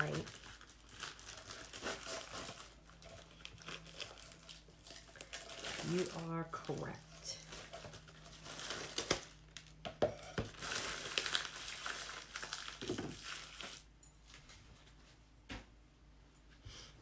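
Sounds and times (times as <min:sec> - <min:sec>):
crinkling and rustling: 0:00.0 - 0:15.3.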